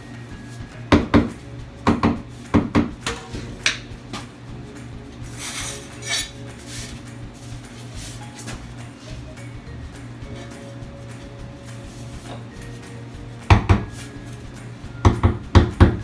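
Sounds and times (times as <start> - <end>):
tiles knocking and clinking: 0.0 - 16.0.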